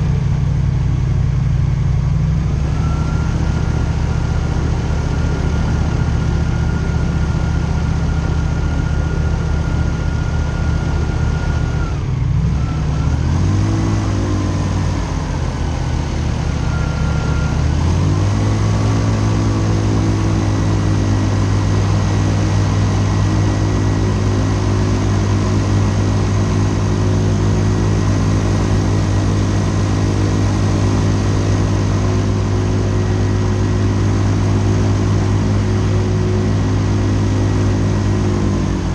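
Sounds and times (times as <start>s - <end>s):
airboat engine and propeller: 0.0s - 38.9s.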